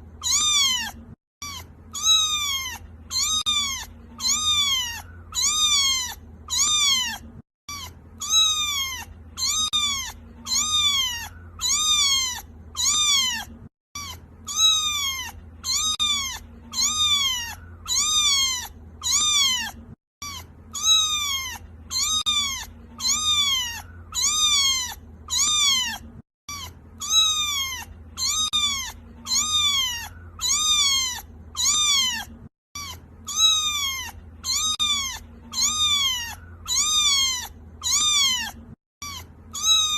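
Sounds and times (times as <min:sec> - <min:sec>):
kitten meowing: 0:00.1 - 0:39.9.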